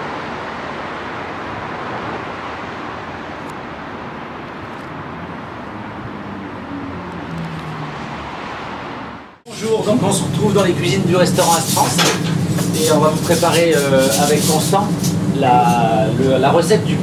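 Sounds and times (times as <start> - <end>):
ventilation rushing: 0.0 - 17.0.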